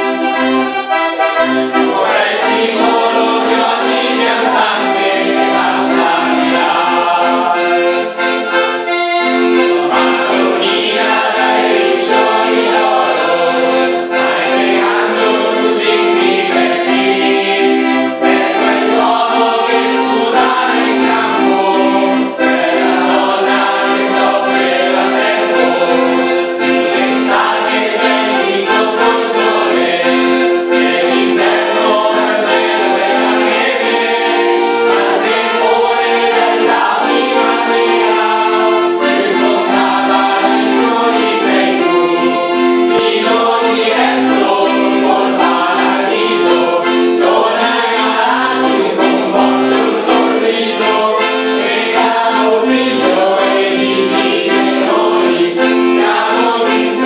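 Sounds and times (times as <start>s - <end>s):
group singing: 0.0s - 57.0s
instrumental held chords: 0.0s - 57.0s.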